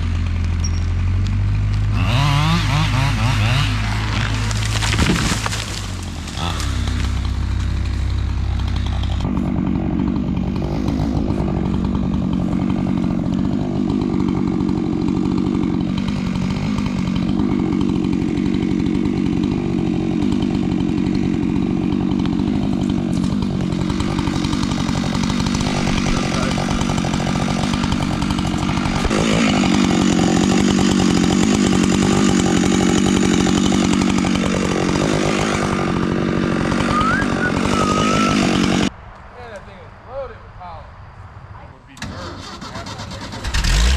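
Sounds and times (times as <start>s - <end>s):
chainsaw cutting wood: 0.0s - 38.9s, 42.0s - 43.9s.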